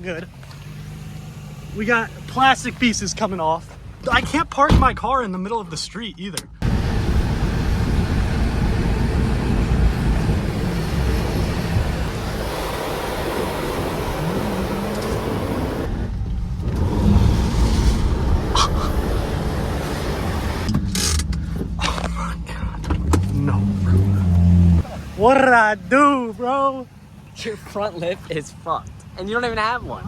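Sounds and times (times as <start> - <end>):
road or wind noise: 0.0 - 5.6, 6.4 - 30.0
car engine rumble: 0.0 - 30.0.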